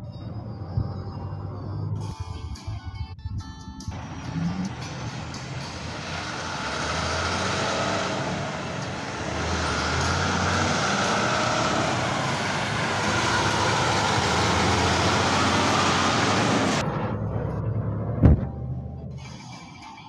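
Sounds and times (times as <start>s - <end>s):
heavy truck traffic roar: 0.0s - 2.5s, 3.9s - 20.0s.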